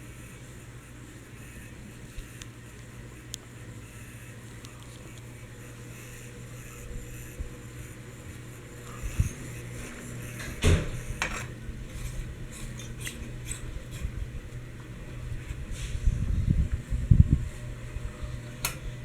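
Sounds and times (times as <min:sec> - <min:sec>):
ceiling fan humming: 0:00.0 - 0:19.0.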